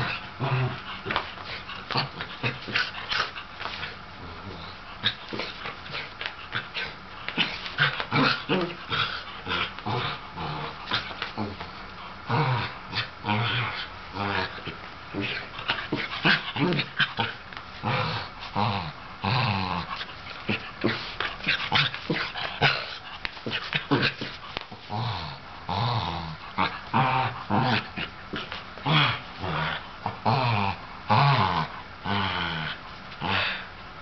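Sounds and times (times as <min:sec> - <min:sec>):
dog growling playfully: 0:00.0 - 0:33.7.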